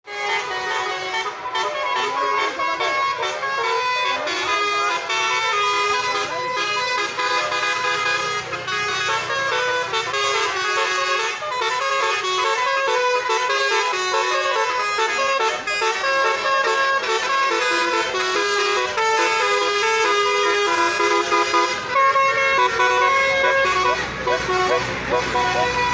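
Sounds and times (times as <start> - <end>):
bus musical horn melody: 0.0 - 25.9.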